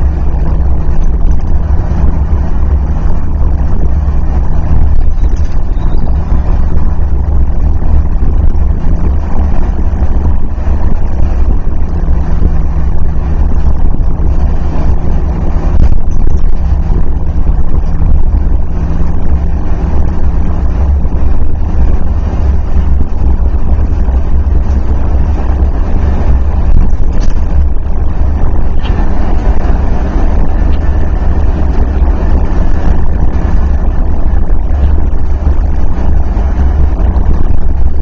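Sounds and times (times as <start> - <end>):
faint engine hum: 0.0 - 38.0
road and wind noise inside vehicle: 0.0 - 38.0.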